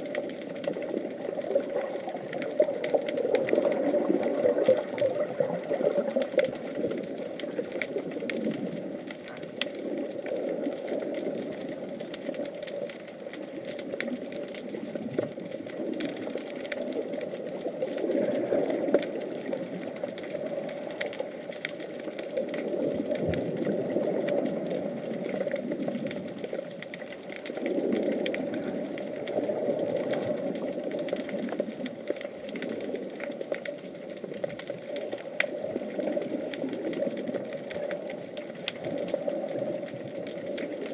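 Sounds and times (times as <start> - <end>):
faint crackles: 0.0 - 40.9.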